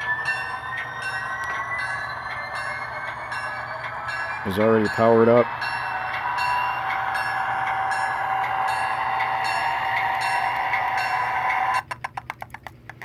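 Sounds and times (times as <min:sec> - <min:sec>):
locomotive bell ringing: 0:00.0 - 0:11.8
model train diesel engine sound: 0:00.0 - 0:11.9.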